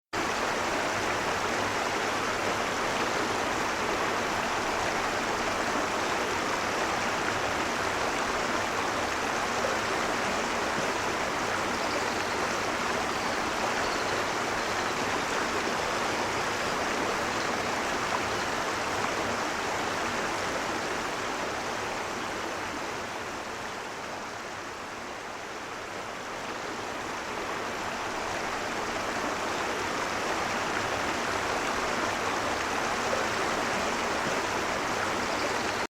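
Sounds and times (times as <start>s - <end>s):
river flowing: 0.2s - 35.9s.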